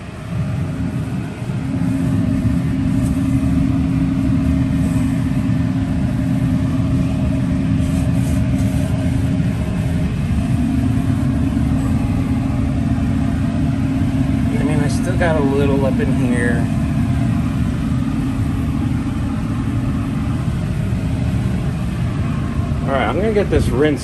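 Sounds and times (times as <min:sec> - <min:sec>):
motor running: 0:00.0 - 0:24.0.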